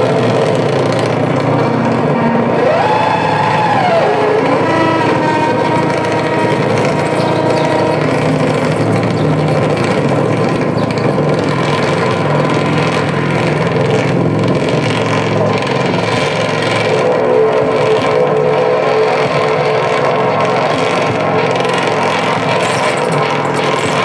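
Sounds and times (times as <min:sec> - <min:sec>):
distorted noise wall: 0:00.0 - 0:24.0
low drone: 0:00.0 - 0:24.0.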